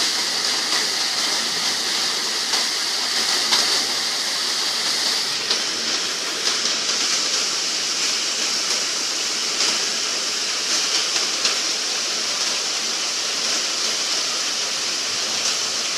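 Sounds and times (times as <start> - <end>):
heavy rain falling: 0.0 - 15.9.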